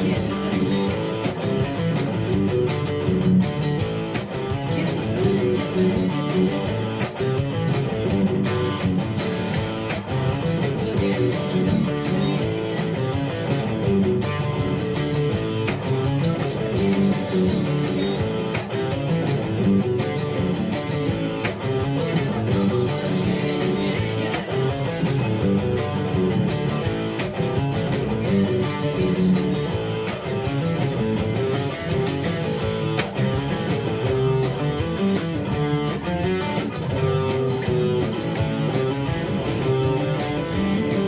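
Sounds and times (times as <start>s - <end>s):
instrumental guitar music: 0.0s - 41.0s.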